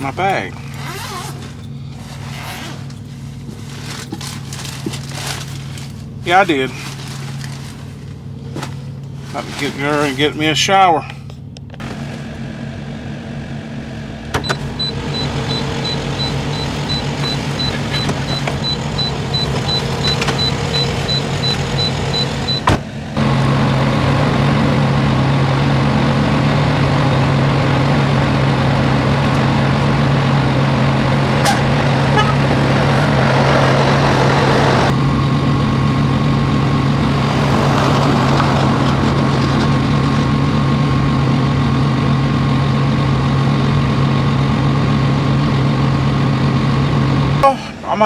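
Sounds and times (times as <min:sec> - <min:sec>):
truck diesel engine humming: 0:00.0 - 0:48.0.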